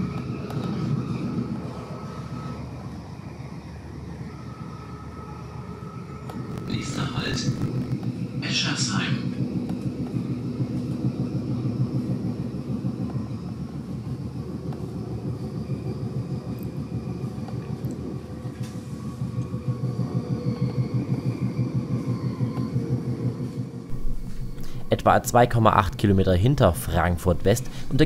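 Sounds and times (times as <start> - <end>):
faint high whine: 0.0 - 28.0
train wheels rumbling on rails: 0.0 - 28.0.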